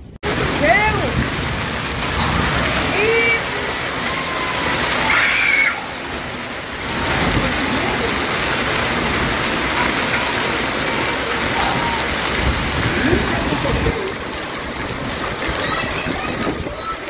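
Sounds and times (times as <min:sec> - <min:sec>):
hail and heavy rain on pavement: 0:00.2 - 0:17.0.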